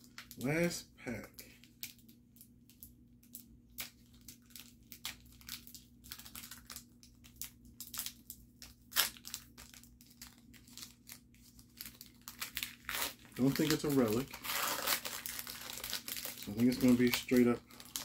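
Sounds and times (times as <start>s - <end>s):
wrapper crinkling and tearing: 0.0s - 18.0s.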